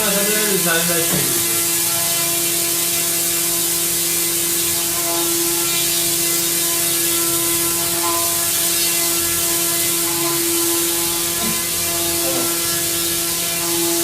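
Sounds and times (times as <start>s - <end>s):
small drone engine buzzing: 0.0s - 14.0s.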